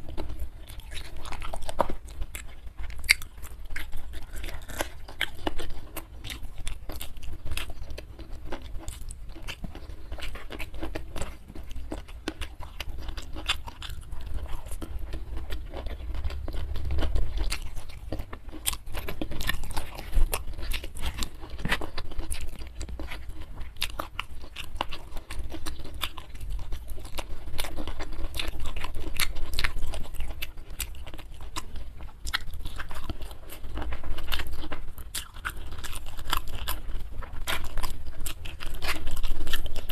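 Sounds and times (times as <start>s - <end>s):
chewing and wet mouth sounds: 0.0s - 39.9s
crunchy bites: 0.0s - 39.9s.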